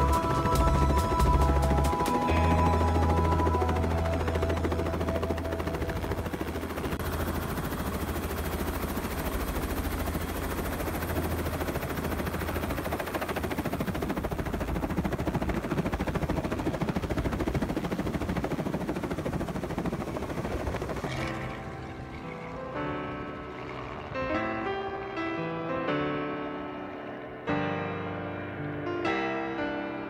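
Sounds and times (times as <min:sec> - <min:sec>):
helicopter rotor chop: 0:00.0 - 0:24.7.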